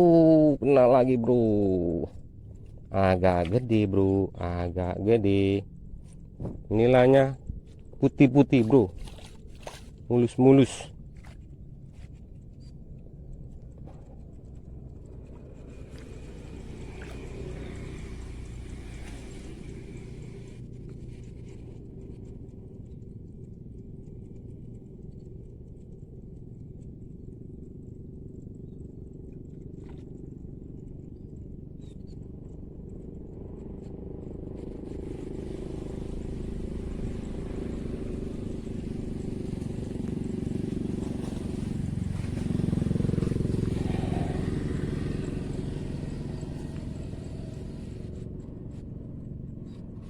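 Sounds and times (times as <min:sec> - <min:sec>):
vehicle engine hum: 0:00.0 - 0:50.0.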